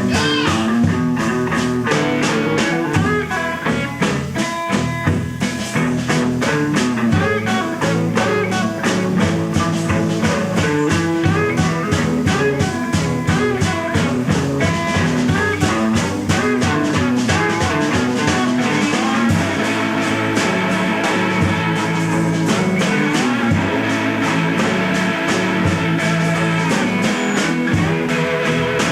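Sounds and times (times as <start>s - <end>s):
drum kit beat: 0.0s - 28.9s
electric guitars: 0.0s - 28.9s
slide electric guitar: 0.0s - 28.9s.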